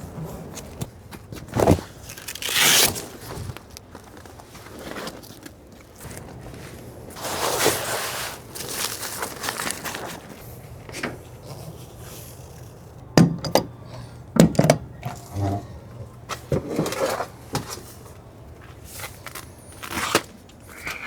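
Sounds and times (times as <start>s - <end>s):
rustling of camp gear: 0.0s - 21.0s.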